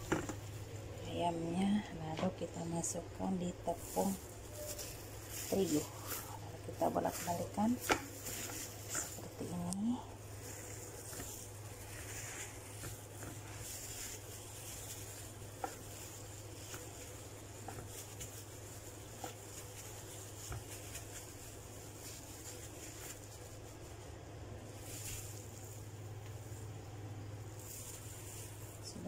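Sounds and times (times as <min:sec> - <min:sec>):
patting and rustling in flour: 0:00.0 - 0:29.0
steady low hum: 0:00.0 - 0:29.0.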